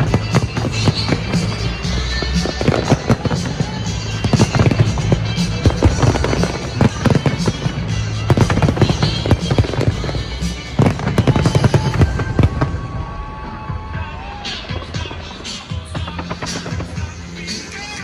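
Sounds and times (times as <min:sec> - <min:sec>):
fireworks bangs and crackles: 0:00.0 - 0:18.0
music playing: 0:00.0 - 0:18.0.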